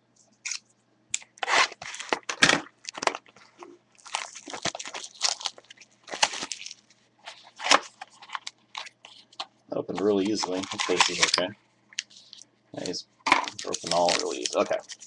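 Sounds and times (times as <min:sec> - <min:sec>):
wrapper crinkling and tearing: 0:01.3 - 0:03.4, 0:04.0 - 0:15.0.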